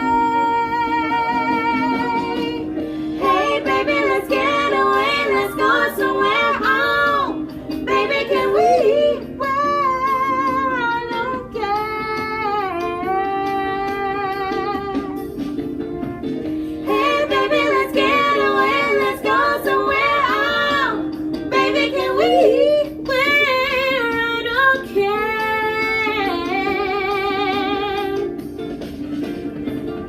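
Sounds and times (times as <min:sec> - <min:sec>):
guitar accompaniment: 0:00.0 - 0:30.0.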